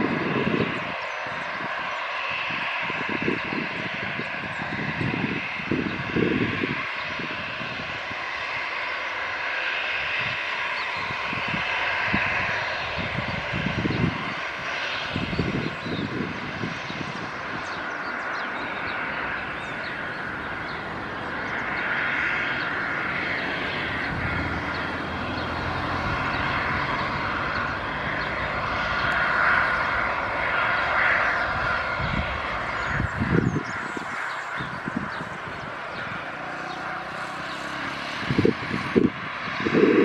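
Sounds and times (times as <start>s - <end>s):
jet engine whine: 0.0s - 40.0s.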